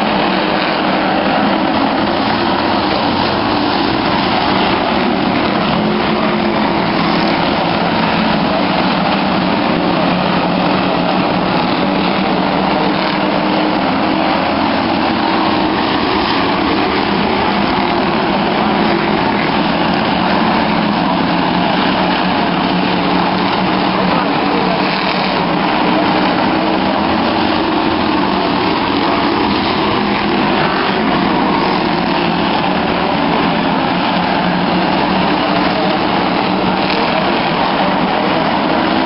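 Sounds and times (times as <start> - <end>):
stock car engines droning: 0.0 - 39.0.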